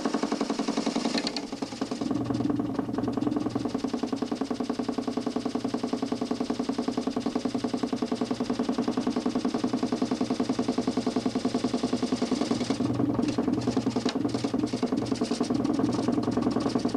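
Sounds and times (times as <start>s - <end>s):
electric motor humming with pulsing: 0.0s - 16.9s.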